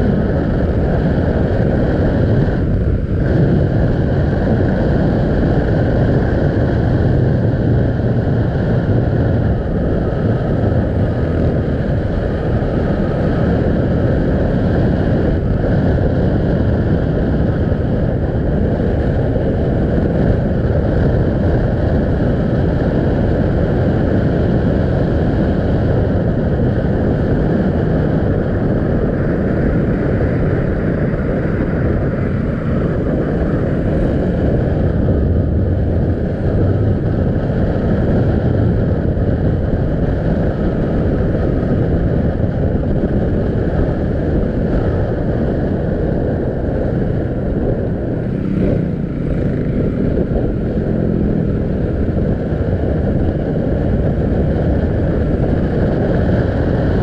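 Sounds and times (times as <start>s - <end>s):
motorcycle engine cruising: 0.0s - 57.0s
wind on microphone: 0.0s - 57.0s.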